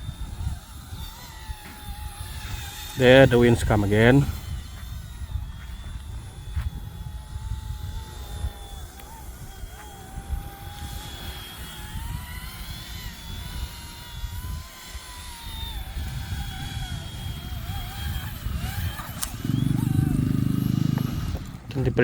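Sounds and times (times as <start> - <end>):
toy helicopter rotor whining: 0.0 - 22.0
wind buffeting microphone: 0.0 - 22.0.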